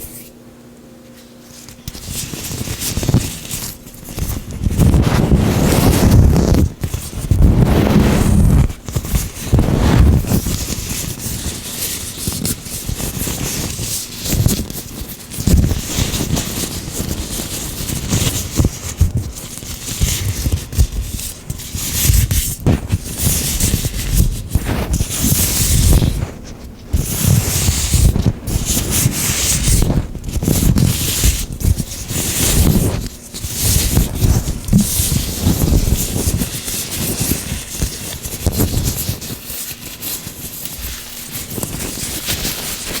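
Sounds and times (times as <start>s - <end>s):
gloved hands rubbing oil: 1.6s - 43.0s.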